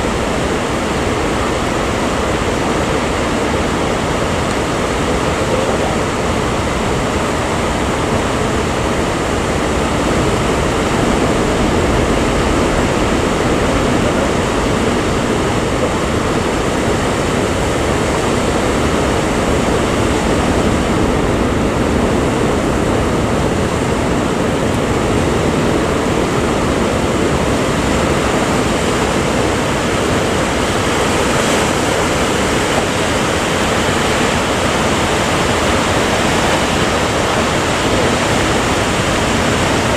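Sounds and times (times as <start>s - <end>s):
sea surf rushing: 0.0s - 39.9s
wind: 0.0s - 39.9s.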